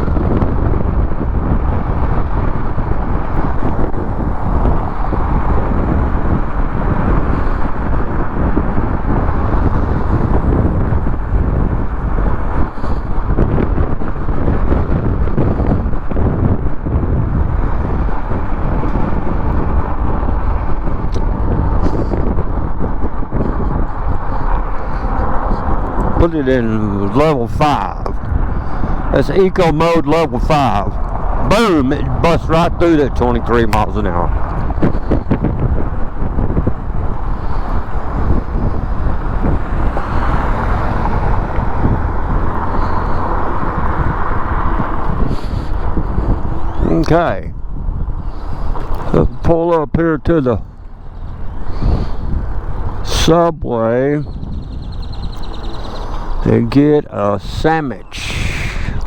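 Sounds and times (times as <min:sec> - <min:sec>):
tyre and road noise: 0:00.0 - 0:59.0
wind buffeting microphone: 0:00.0 - 0:59.0.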